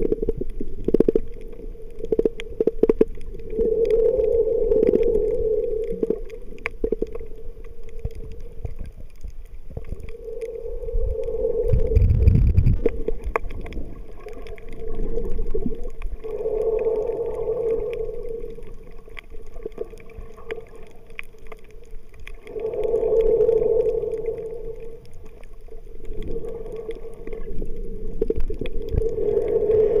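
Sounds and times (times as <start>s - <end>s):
faint clicks: 0.0s - 12.0s, 12.6s - 30.0s
droning hum: 0.0s - 30.0s
snorkel breathing underwater: 1.3s - 9.0s, 9.8s - 21.2s, 22.2s - 30.0s.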